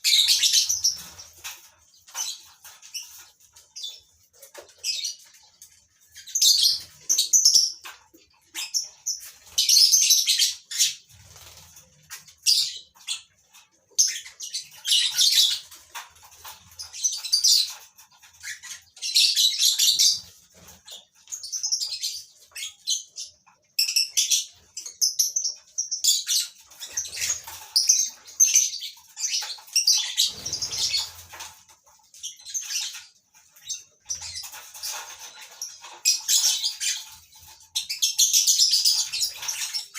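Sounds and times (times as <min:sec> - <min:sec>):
lovebirds chirping and chattering: 0:00.0 - 0:39.9.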